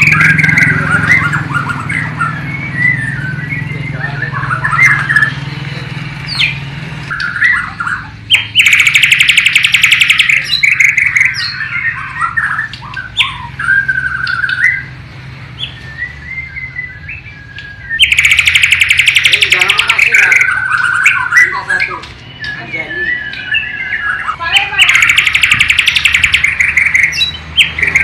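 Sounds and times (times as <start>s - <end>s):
rapid buzzy bird trill: 0.0s - 5.5s, 6.3s - 14.9s, 18.0s - 21.6s, 23.2s - 28.0s
songbird whistling song: 0.0s - 28.0s.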